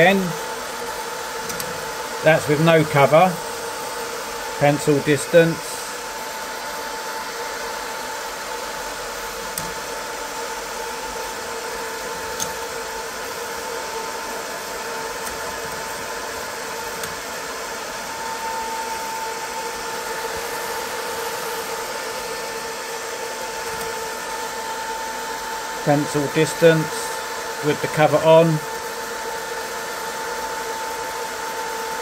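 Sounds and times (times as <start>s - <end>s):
cooling fan whirring: 0.0s - 32.0s.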